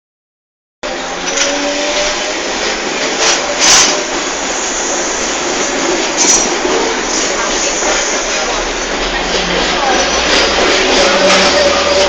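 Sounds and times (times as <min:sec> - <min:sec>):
electric train rushing roar: 0:00.8 - 0:12.0.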